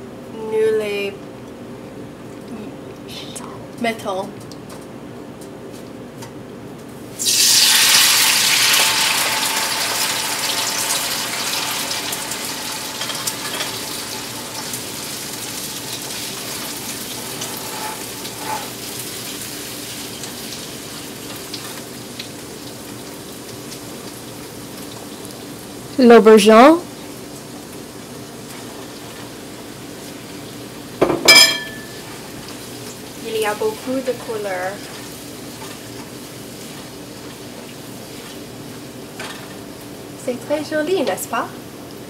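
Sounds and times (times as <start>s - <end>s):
vegetables sizzling in a frying pan: 7.0s - 42.0s.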